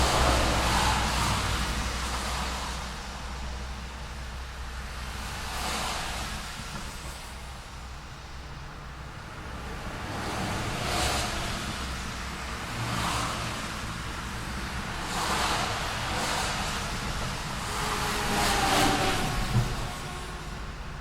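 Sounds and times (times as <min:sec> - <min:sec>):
cars passing: 0:00.0 - 0:21.0
low traffic rumble: 0:00.0 - 0:21.0.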